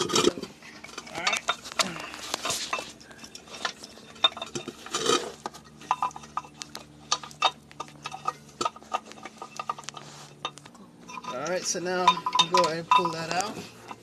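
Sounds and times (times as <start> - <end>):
metal clicking and clinking: 0.0 - 14.0.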